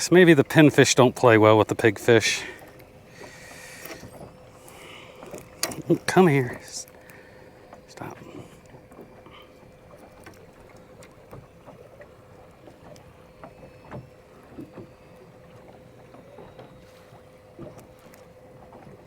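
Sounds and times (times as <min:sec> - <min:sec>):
faint hum: 0:00.0 - 0:19.0
waves lapping against boat hull: 0:00.0 - 0:19.0.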